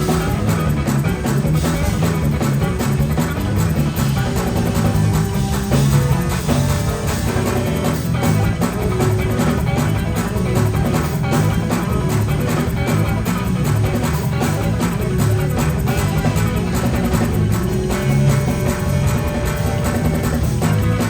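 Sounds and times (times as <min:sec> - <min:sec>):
gospel band playing: 0:00.0 - 0:21.0.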